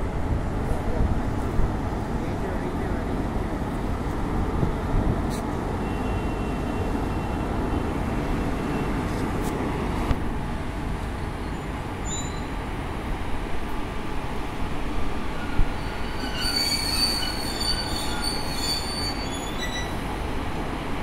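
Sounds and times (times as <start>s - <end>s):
locomotive rumbling: 0.0s - 21.0s.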